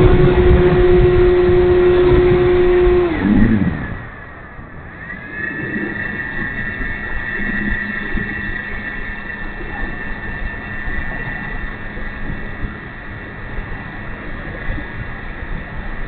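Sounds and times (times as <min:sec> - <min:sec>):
high steady whine: 0:00.0 - 0:16.0
model airplane motor and propeller: 0:00.0 - 0:16.0.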